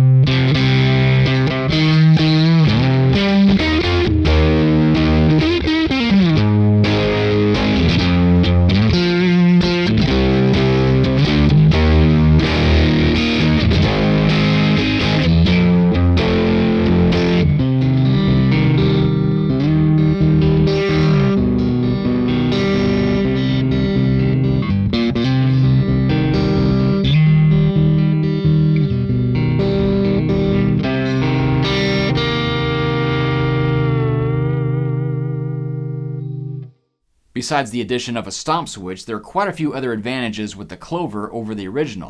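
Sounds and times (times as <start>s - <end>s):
electric guitar chords: 0.0s - 36.8s.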